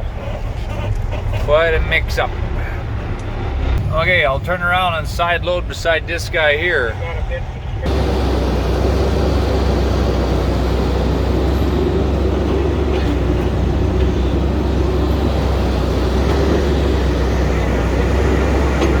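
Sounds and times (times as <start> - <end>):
diesel truck engine drone: 0.0 - 19.0.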